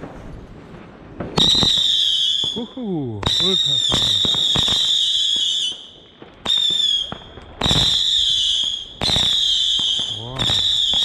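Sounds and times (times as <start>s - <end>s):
firework crack: 0.0s - 11.0s
shrill firework whistle: 1.3s - 11.0s.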